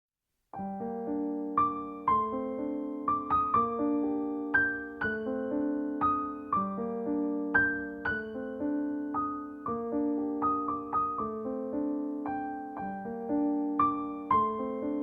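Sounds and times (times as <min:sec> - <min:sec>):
piano music: 0:00.6 - 0:15.0.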